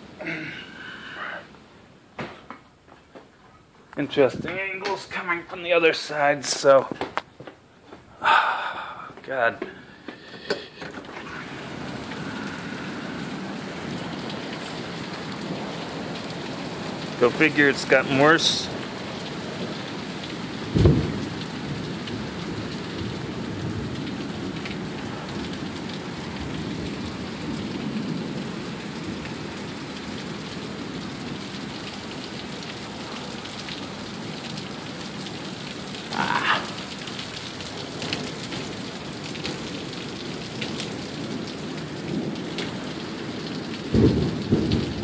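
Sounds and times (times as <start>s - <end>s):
heavy rain splashing: 0.0s - 2.4s, 4.0s - 7.0s, 8.0s - 45.0s.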